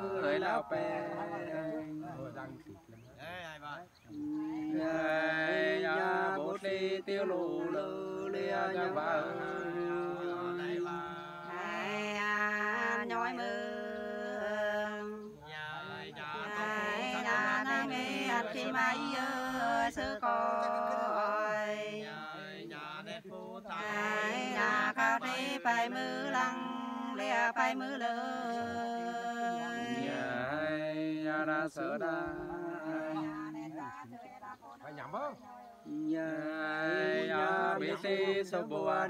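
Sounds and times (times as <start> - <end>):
two voices singing duet: 0.0 - 2.7, 4.1 - 34.0, 35.7 - 39.0.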